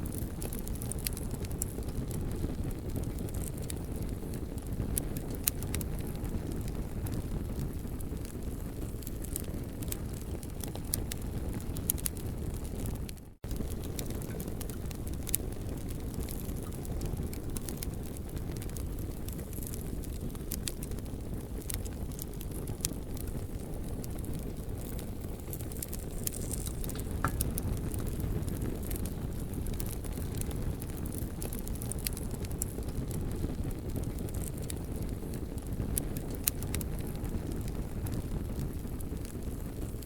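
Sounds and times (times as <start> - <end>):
crackles and pops of burning wood: 0.0 - 40.0
low rushing noise of fire: 0.0 - 40.0.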